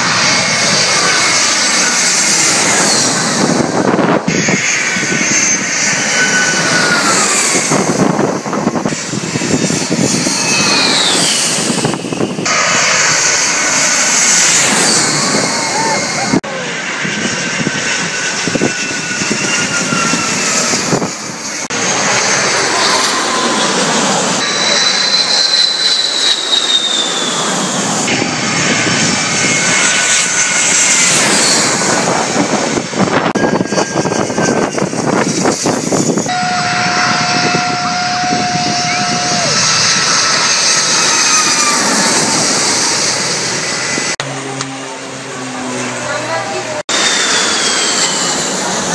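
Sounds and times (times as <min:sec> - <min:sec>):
jet airliner passing overhead: 0:00.0 - 0:48.9.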